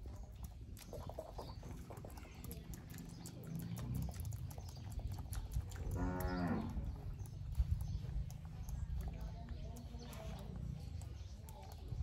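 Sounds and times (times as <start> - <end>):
macaque grooming clicks: 0.0 - 12.0.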